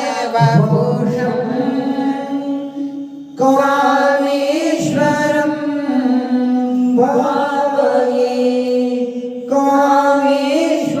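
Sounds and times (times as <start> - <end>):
voices chanting on long notes: 0.0 - 11.0.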